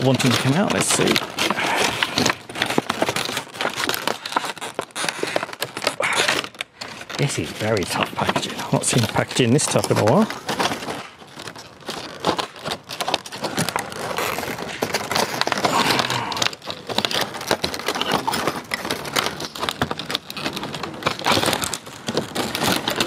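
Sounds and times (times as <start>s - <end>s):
plastic packaging crackling: 0.0s - 23.0s.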